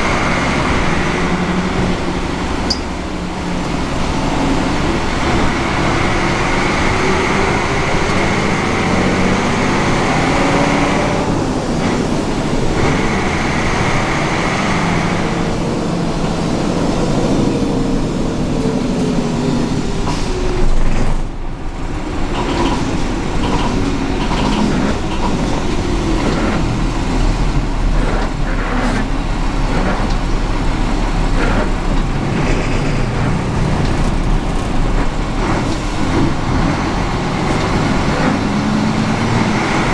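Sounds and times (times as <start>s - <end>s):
bus diesel engine pulling through gears: 0.0s - 39.9s.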